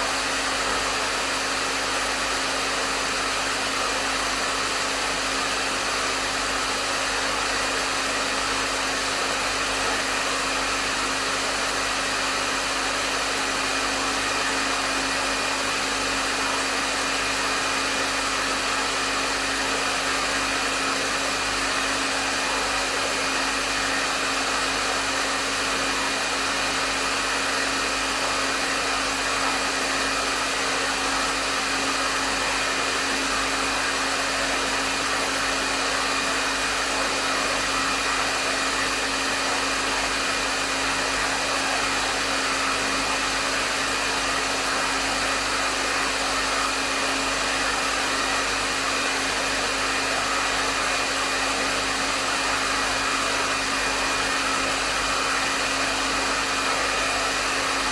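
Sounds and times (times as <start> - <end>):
hair dryer airflow: 0.0 - 57.9.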